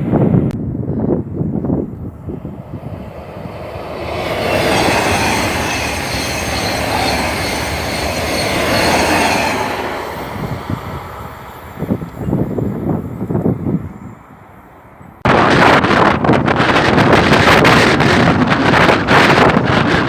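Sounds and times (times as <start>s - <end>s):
wind buffeting microphone: 0.0s - 20.0s
train passing: 1.0s - 20.0s.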